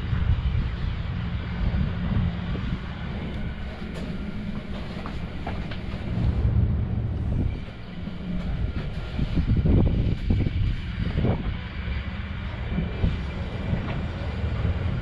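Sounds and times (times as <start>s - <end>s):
boat engines rumbling: 0.0s - 15.0s.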